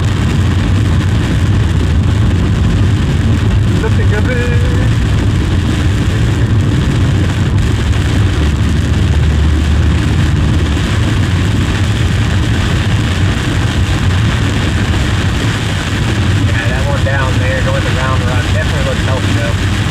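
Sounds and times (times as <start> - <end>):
engine and road rumble: 0.0 - 19.9.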